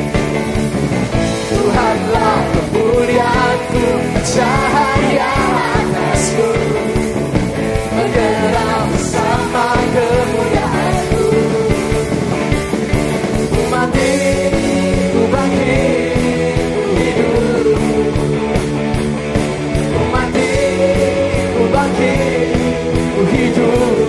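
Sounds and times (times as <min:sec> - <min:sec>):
rock band playing: 0:00.0 - 0:24.0
singers singing: 0:01.2 - 0:12.5, 0:13.5 - 0:18.9, 0:19.7 - 0:24.0.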